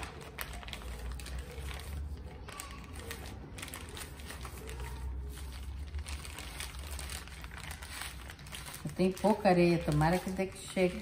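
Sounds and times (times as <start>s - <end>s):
plastic crinkling and rustling: 0.0s - 11.0s.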